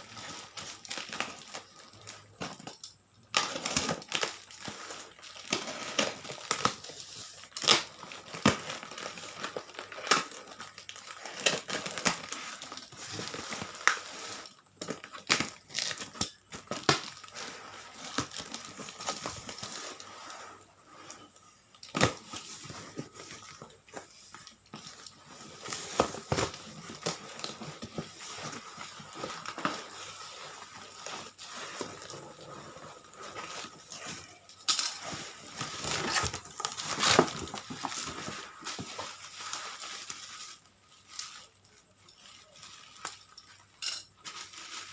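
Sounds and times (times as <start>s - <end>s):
packaging being unwrapped: 0.0s - 44.9s.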